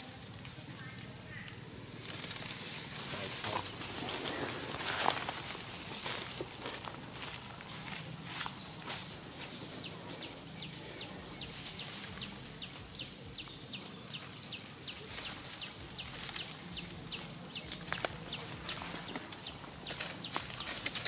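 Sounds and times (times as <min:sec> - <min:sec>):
leaves rustling: 0:00.0 - 0:21.0.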